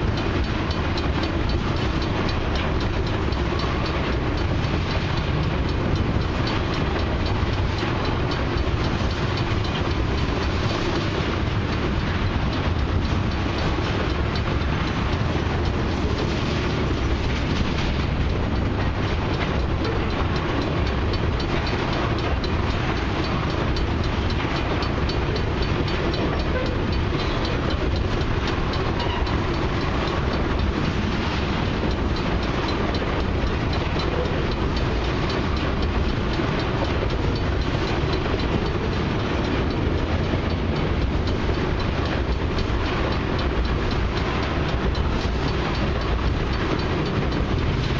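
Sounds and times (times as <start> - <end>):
freight train rumbling past: 0.0 - 47.9
wheels clicking over rail joints: 0.0 - 47.9.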